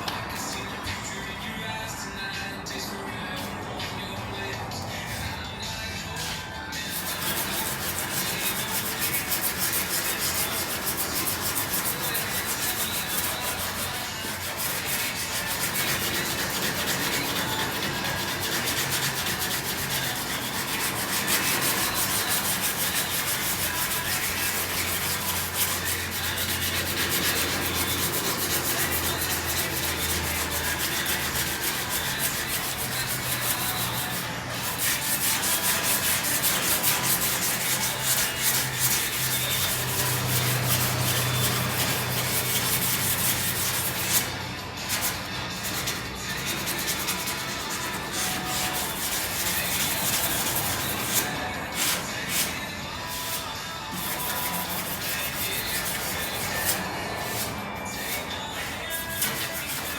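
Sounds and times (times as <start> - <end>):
metal panel being sanded: 6.1 - 59.9.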